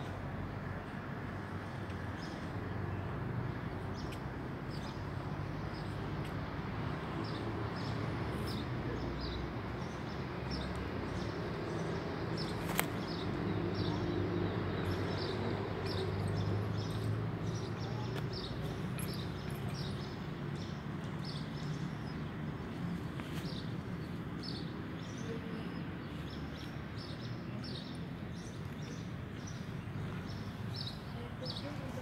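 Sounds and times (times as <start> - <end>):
small birds chirping: 0.8 - 32.0.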